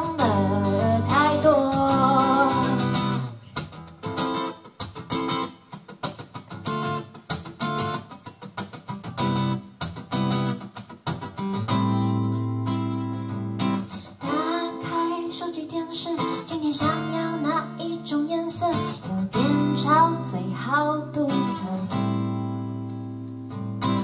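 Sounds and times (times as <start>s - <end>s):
acoustic guitar strummed chords: 0.0s - 24.0s.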